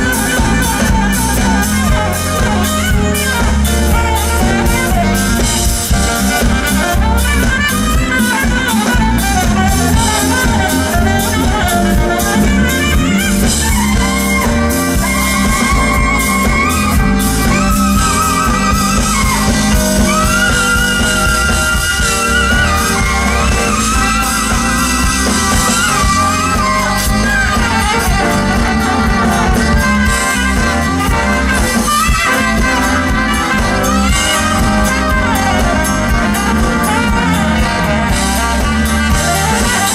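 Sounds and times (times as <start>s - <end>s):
saxophone playing held notes: 0.0s - 39.9s
steady drum beat: 0.0s - 39.9s.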